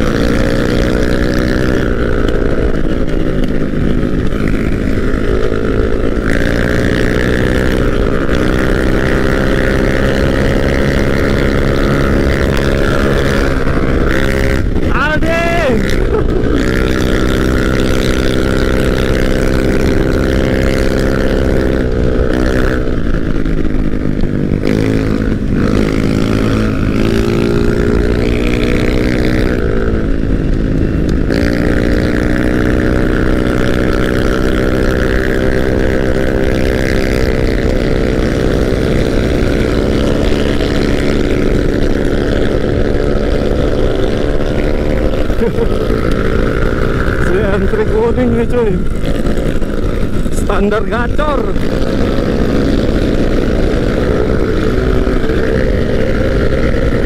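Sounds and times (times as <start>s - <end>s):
motorcycle engine revving: 0.0s - 57.0s
wind rumbling on microphone: 0.0s - 57.0s.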